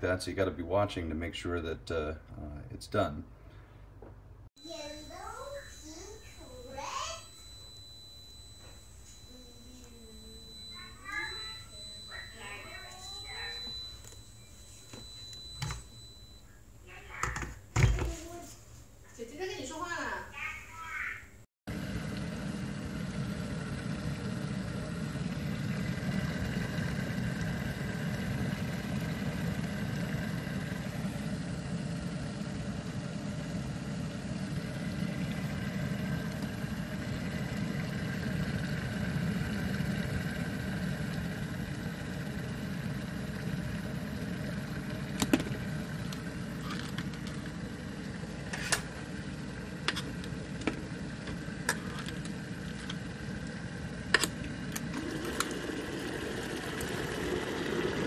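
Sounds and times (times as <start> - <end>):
kettle heating water: 4.6 - 18.4, 21.7 - 58.0.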